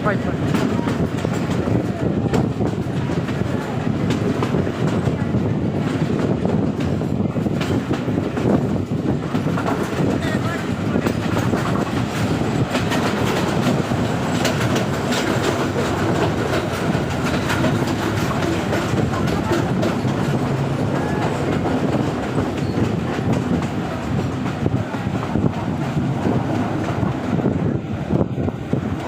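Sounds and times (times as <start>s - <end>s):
train rumbling on track: 0.0s - 29.0s
wheels clacking over rail joints: 0.2s - 29.0s.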